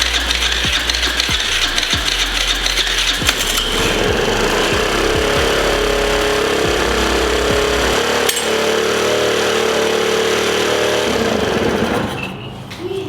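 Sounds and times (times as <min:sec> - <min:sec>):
mini bike engine idling: 0:00.0 - 0:13.0.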